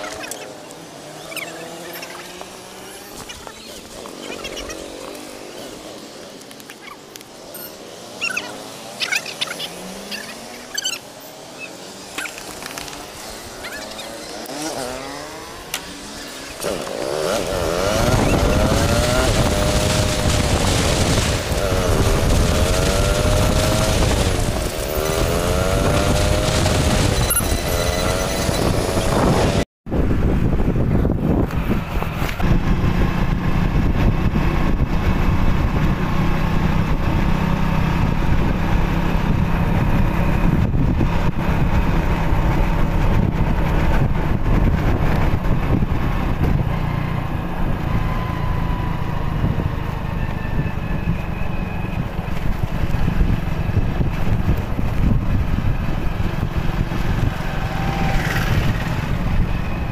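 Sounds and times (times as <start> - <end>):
motorcycle engine: 0.0 - 59.9
wind and road noise: 0.0 - 59.9.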